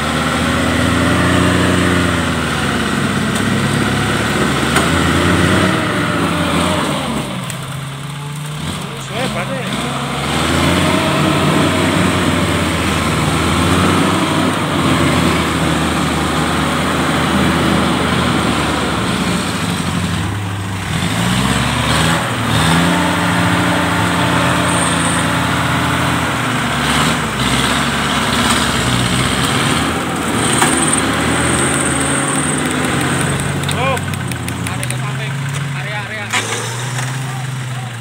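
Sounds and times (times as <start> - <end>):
engine straining at high revs: 0.0 - 38.0.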